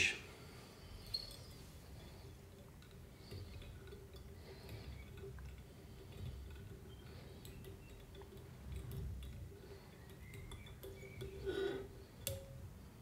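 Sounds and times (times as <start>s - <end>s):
tool ticking and rubbing thread: 0.8s - 13.0s.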